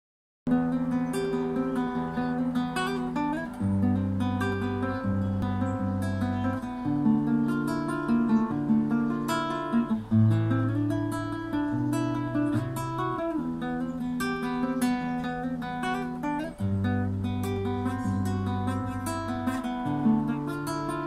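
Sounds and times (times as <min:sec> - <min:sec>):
fingerstyle classical guitar: 0:00.5 - 0:21.0.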